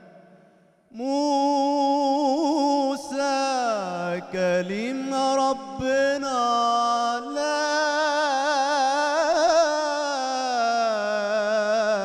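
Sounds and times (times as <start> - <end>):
man singing melismatic religious song: 0.9 - 12.0.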